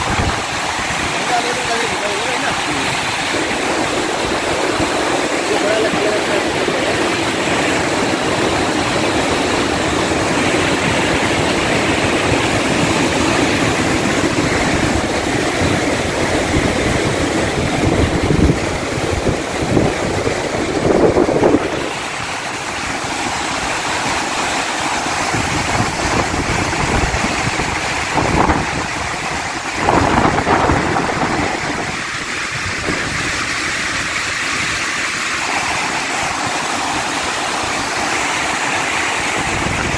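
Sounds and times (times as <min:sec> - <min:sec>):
wind buffeting microphone: 0:00.0 - 0:24.2, 0:24.9 - 0:34.8, 0:39.3 - 0:39.9
flood water rushing: 0:00.0 - 0:39.9.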